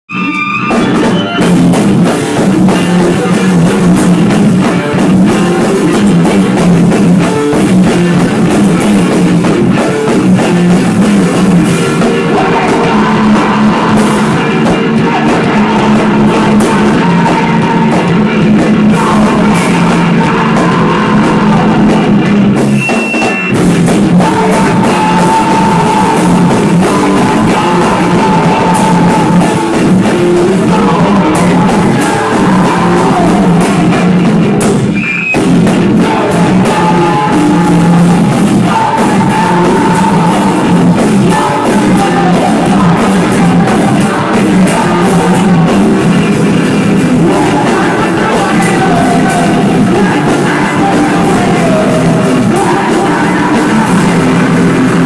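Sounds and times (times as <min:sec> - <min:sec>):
rock band music: 0:00.0 - 0:55.0.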